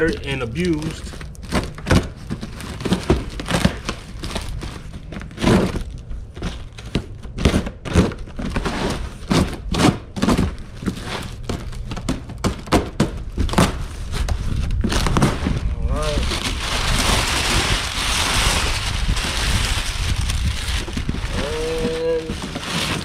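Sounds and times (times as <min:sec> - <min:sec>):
cardboard crinkling: 0:00.0 - 0:23.0
cardboard flaps tearing: 0:00.0 - 0:23.0
packing tape cut and peeled: 0:00.0 - 0:23.0.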